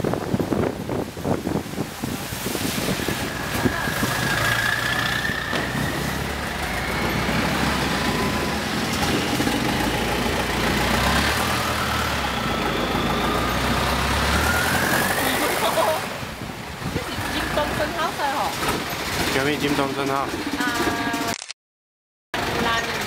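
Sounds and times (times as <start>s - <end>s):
wind rushing: 0.0s - 20.3s
water rushing: 0.0s - 20.6s
boat engine whining: 0.2s - 21.3s.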